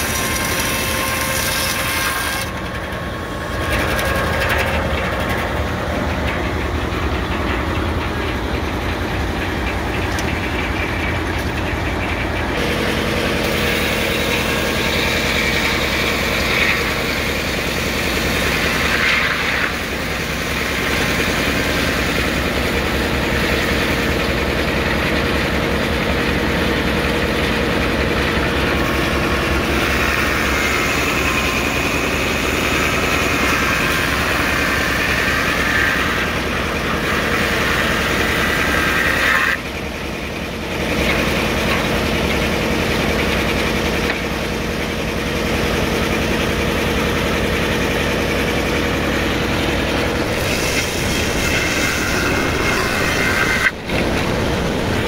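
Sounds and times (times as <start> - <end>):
circular saw blade whining through log: 0.0 - 55.0
sawmill engine drone: 0.0 - 55.0.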